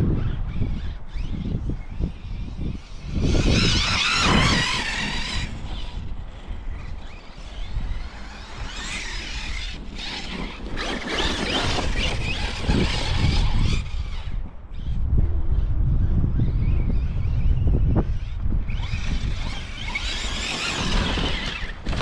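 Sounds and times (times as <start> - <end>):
rc truck motor whining: 0.0 - 22.0
wind rumble on microphone: 0.0 - 22.0.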